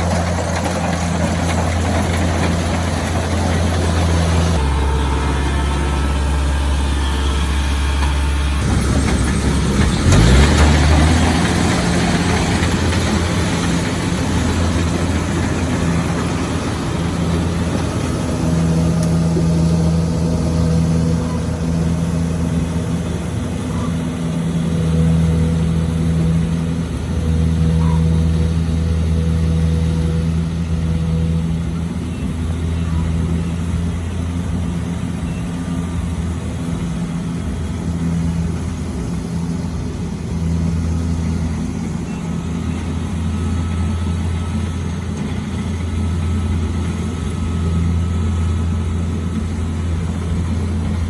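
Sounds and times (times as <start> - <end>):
combine harvester engine hum: 0.0 - 51.0.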